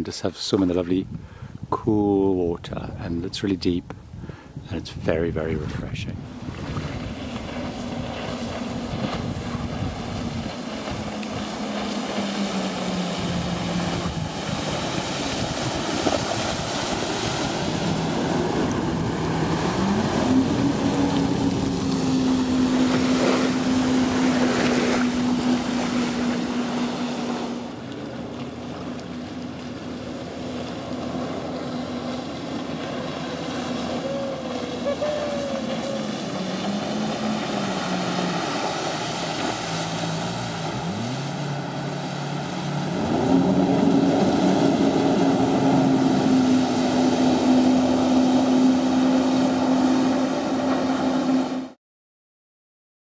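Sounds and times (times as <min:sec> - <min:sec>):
jet ski engine running: 0:00.0 - 0:51.8.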